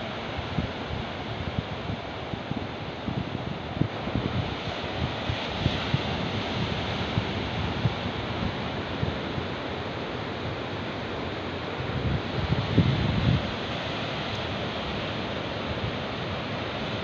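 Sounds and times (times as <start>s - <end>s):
wind buffeting microphone: 0.0s - 15.1s
surf breaking on beach: 0.0s - 17.0s.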